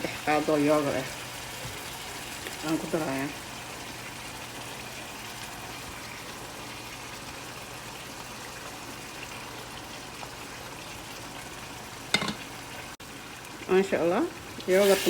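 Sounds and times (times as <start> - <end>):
sauce sizzling in a pot: 0.0 - 15.0.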